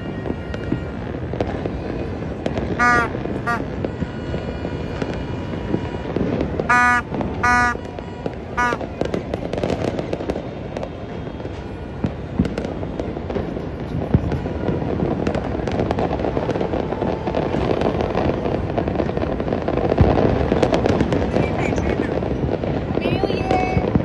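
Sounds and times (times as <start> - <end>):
fireworks crackling and popping: 0.0 - 24.0
loud firework bangs: 0.0 - 24.0.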